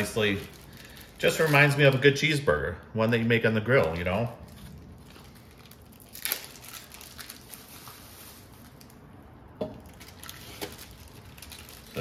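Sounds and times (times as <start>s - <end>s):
plastic bag rustling: 0.0s - 2.4s, 3.0s - 12.0s.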